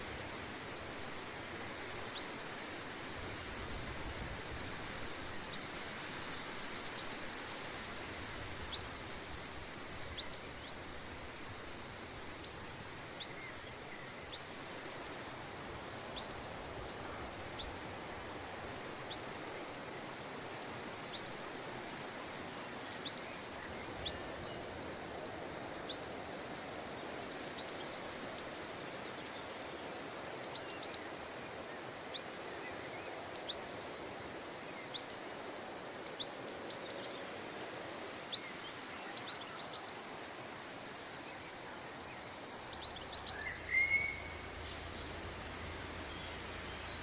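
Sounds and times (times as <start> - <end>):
songbirds chirping: 0.0 - 47.0
steady outdoor hiss: 0.0 - 47.0.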